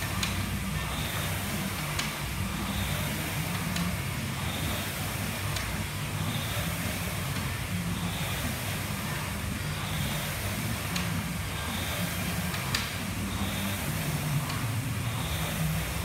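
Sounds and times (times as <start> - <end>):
rowing machine fan whooshing: 0.0 - 16.0.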